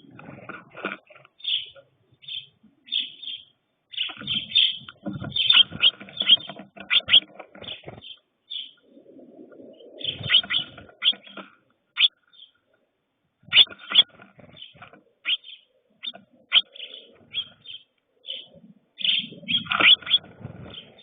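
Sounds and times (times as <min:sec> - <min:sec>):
birds chirping short high calls: 0:01.4 - 0:08.8, 0:10.0 - 0:12.6, 0:13.5 - 0:21.0
lower rough bird calls: 0:01.4 - 0:12.8, 0:13.4 - 0:21.0.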